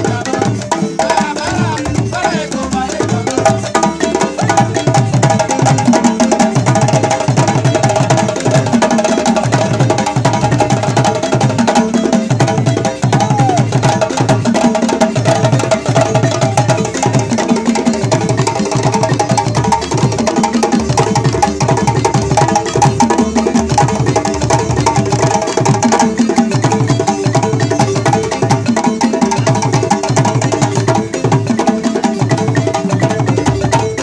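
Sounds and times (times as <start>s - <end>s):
balafon melodic runs: 0.0s - 34.0s
hand drums steady rhythm: 0.0s - 34.0s.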